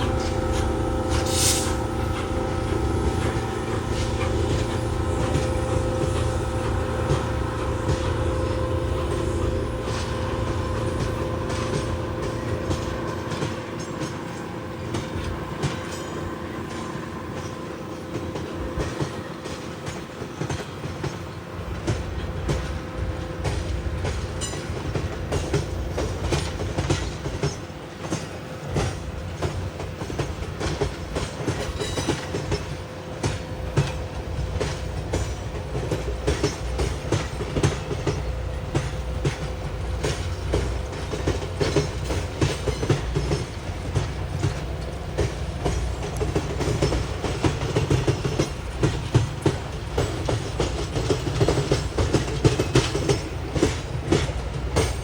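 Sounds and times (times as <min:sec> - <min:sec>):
freight train drone: 0:00.0 - 0:55.0
wheels clicking over rails: 0:00.0 - 0:55.0.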